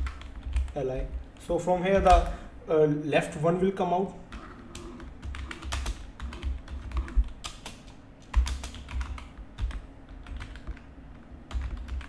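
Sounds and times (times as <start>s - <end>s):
computer keyboard typing: 0.0s - 2.3s, 4.3s - 12.0s.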